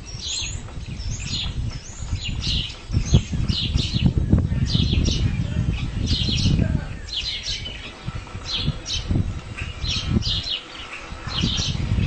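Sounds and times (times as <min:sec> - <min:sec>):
low rumbling noise: 0:00.0 - 0:12.0
small birds chirping: 0:00.0 - 0:12.0.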